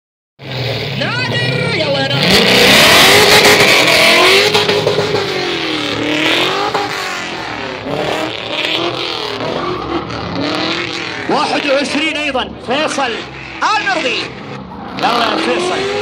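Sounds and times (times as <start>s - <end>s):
car engine revving: 0.4s - 16.0s.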